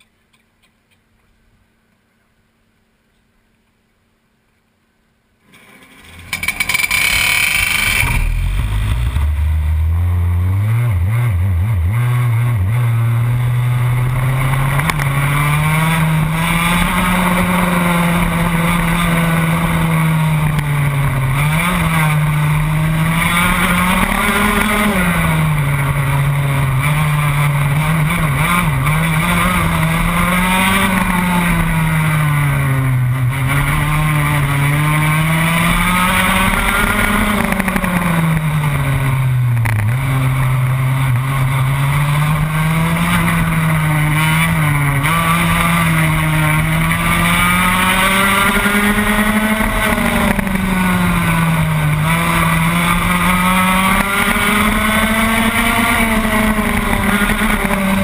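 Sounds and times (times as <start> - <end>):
racing kart engine: 5.4 - 58.0.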